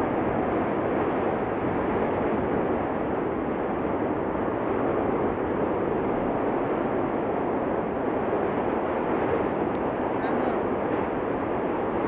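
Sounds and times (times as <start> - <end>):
volcanic eruption noise: 0.0 - 12.0.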